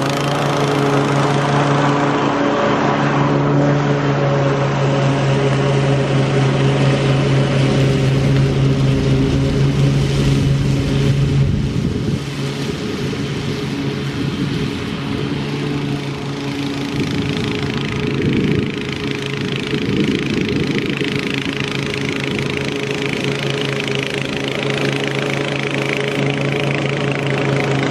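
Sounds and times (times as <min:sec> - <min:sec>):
lawn mower cutting grass: 0:00.0 - 0:27.9.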